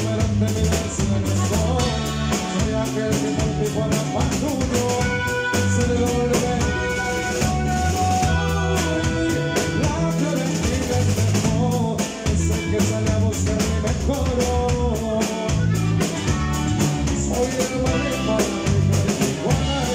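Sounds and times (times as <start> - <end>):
drum kit steady beat: 0.0 - 19.9
guitar: 0.0 - 19.9.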